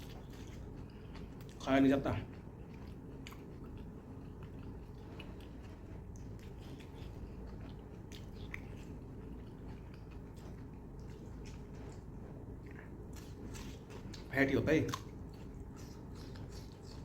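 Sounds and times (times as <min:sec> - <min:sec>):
person chewing food: 0:00.0 - 0:14.3, 0:14.9 - 0:17.0
steady low hum: 0:00.0 - 0:17.0.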